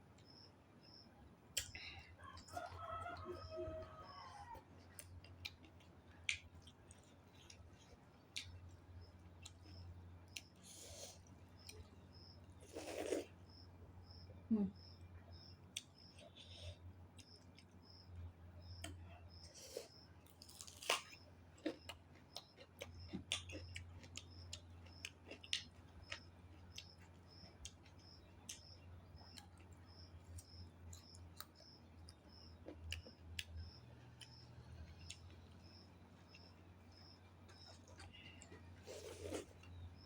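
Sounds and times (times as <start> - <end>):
person chewing food: 4.7 - 13.4, 15.3 - 40.0.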